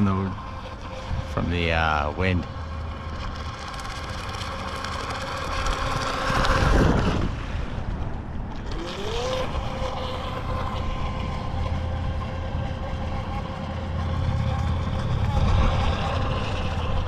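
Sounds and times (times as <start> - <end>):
wind on microphone: 0.0 - 3.2, 5.2 - 17.0
electric motor whining: 0.0 - 17.0.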